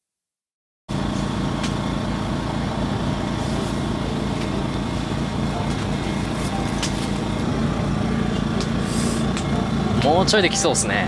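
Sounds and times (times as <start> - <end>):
low engine-like hum: 0.9 - 11.0.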